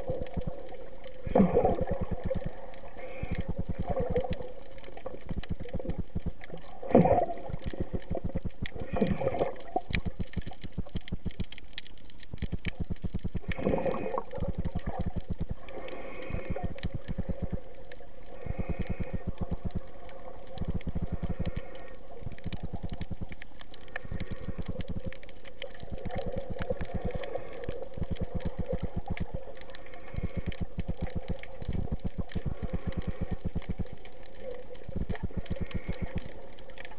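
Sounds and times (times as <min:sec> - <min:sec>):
bubbling: 0:00.0 - 0:36.9
underwater crackle of fast clicks: 0:00.0 - 0:36.9.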